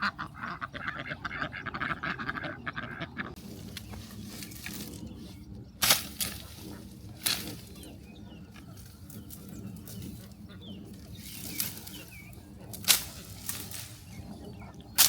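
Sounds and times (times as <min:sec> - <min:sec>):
steady low hum: 0:01.8 - 0:15.0.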